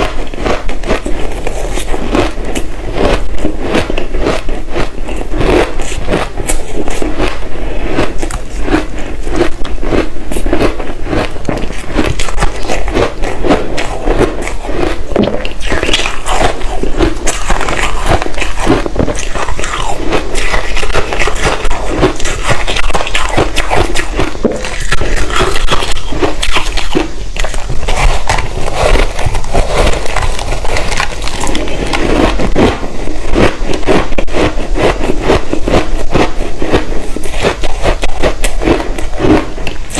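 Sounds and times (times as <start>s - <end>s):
biting and chewing ice: 0.0s - 39.9s.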